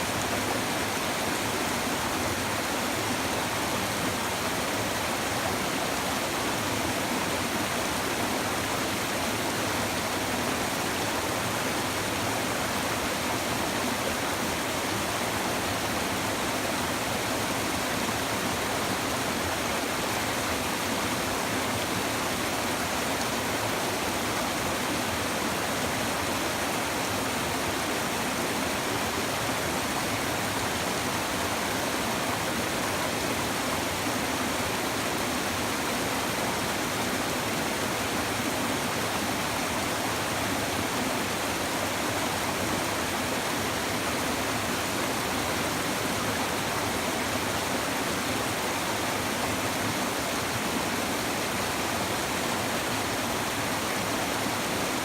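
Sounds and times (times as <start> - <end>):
river water babbling over stones: 0.0 - 55.0.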